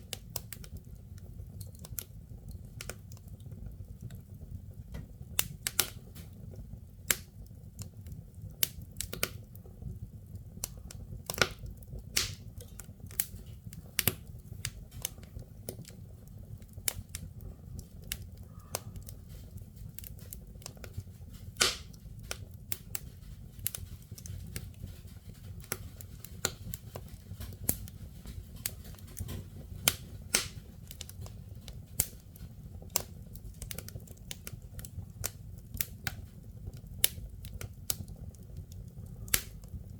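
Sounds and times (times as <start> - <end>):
firewood crackling and popping: 0.0 - 39.9
low fire rumble: 0.0 - 39.9.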